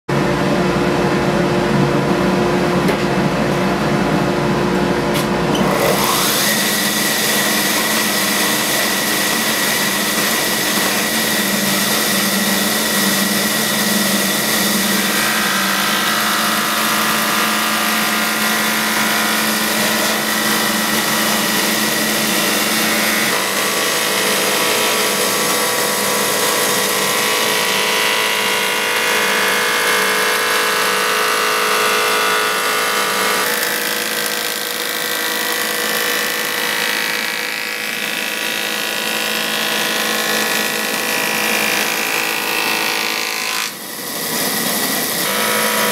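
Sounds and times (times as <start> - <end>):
thickness planer cutting wood: 5.2 - 45.9.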